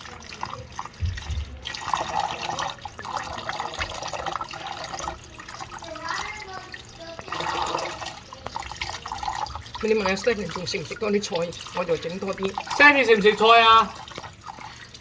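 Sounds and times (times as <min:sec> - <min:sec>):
tap water running into sink: 0:00.0 - 0:15.0
water splashing over leaves: 0:00.0 - 0:15.0.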